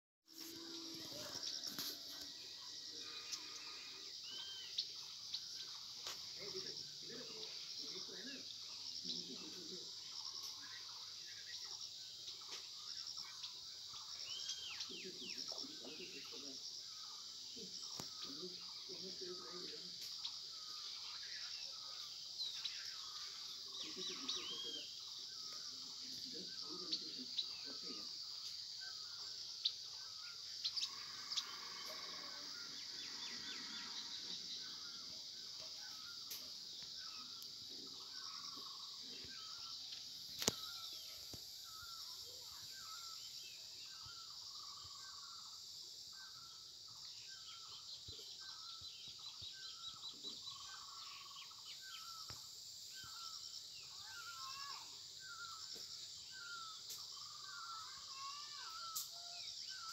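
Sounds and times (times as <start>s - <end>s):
birds chirping: 0.3s - 59.9s.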